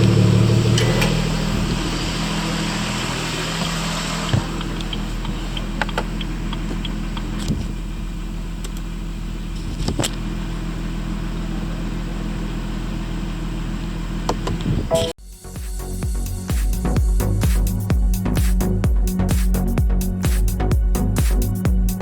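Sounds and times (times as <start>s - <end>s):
car engine idling: 0.0s - 14.6s, 15.2s - 22.0s.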